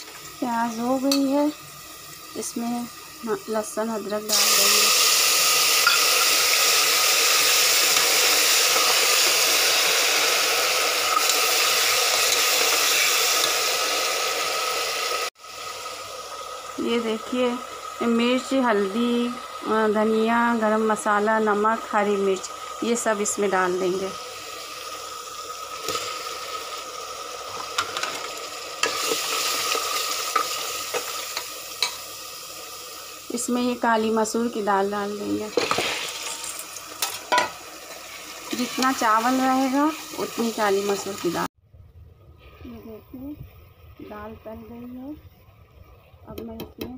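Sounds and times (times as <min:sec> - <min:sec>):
paste sizzling in hot oil: 0:00.0 - 0:41.5.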